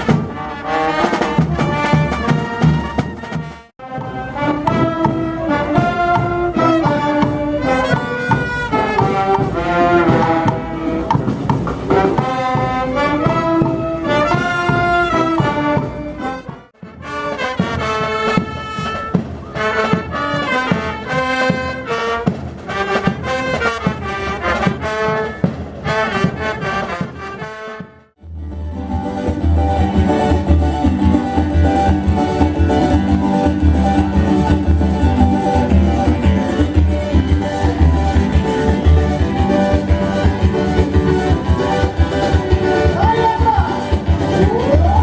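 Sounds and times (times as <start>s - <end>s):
brass band playing: 0.0s - 45.0s.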